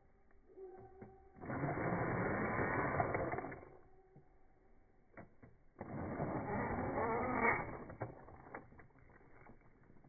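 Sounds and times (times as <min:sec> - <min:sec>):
electric motor and gears whirring: 0:00.7 - 0:10.0.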